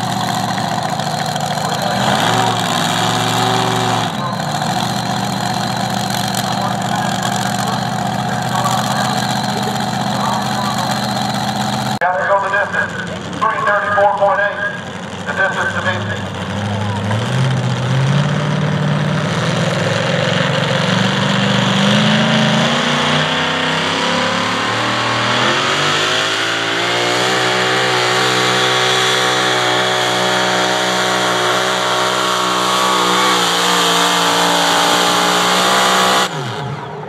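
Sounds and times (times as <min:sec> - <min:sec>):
racing engine at full throttle: 0:00.0 - 0:37.0.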